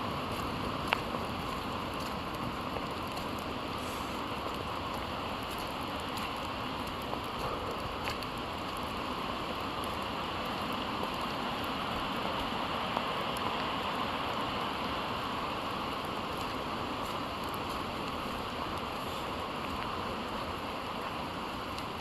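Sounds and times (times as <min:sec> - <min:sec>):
steady rain hiss: 0:00.0 - 0:22.0
raindrop ticks: 0:00.3 - 0:22.0.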